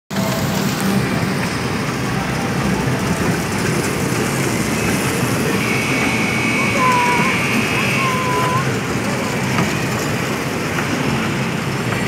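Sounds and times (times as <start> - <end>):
crowd noise: 0.1 - 12.0
kiddie train ride rumbling: 0.1 - 12.0.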